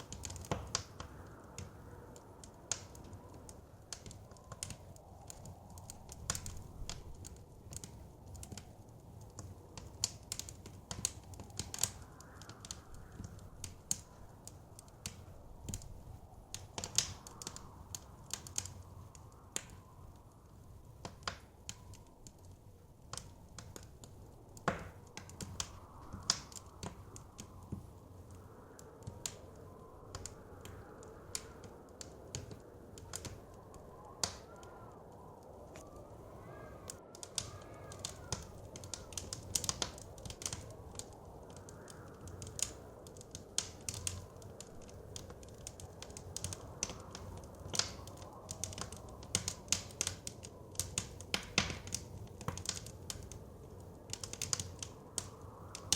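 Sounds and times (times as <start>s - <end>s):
soft rumble of wind: 0.0s - 55.9s
wood fire crackling and popping: 0.0s - 55.9s.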